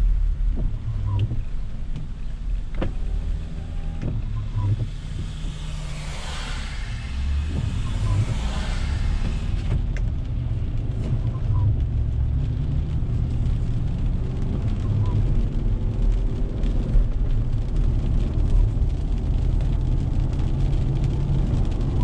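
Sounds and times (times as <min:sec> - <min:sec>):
car engine rumble inside cabin: 0:00.0 - 0:22.0
tyres on wet pavement: 0:00.0 - 0:22.0
windshield wipers sweeping: 0:00.0 - 0:22.0.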